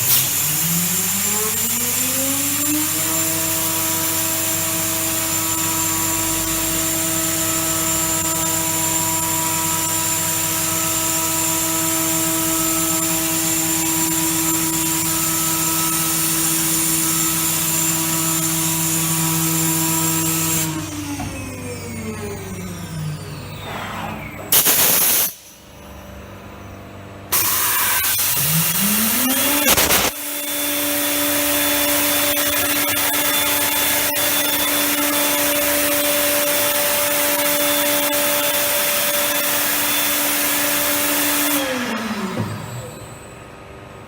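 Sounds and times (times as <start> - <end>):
machine spindle whine: 0.0 - 44.0.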